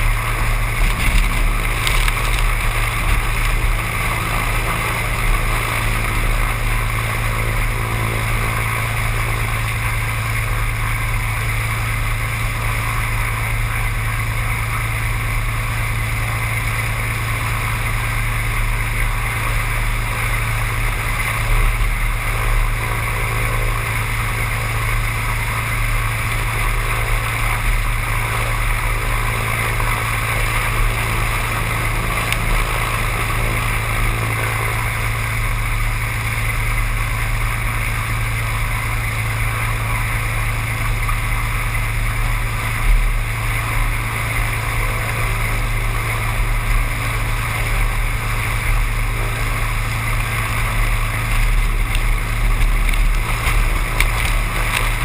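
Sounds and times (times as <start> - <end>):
seaplane engine drone: 0.0 - 55.0.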